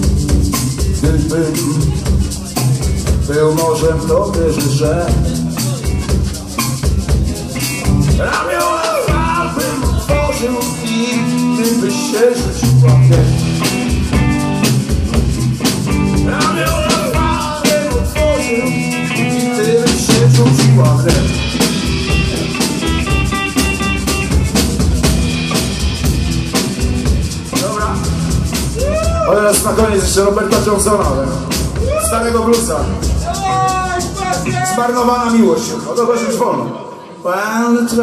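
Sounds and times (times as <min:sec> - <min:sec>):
drum and cymbal hits: 0:00.0 - 0:36.1
electric guitar blues: 0:00.0 - 0:36.2.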